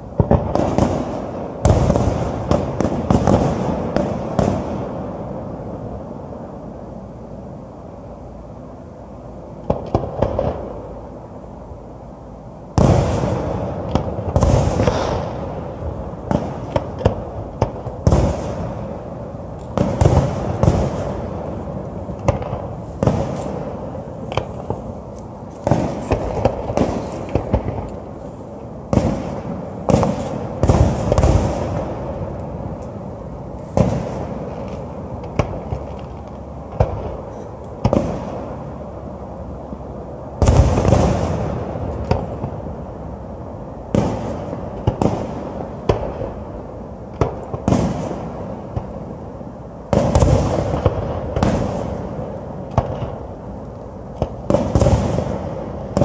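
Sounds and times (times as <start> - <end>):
fireworks bursting with echo: 0.0 - 7.8, 9.4 - 56.0.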